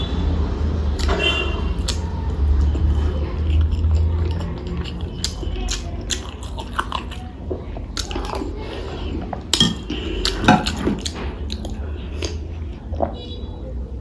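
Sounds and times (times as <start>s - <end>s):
chewing and biting: 1.0s - 13.1s.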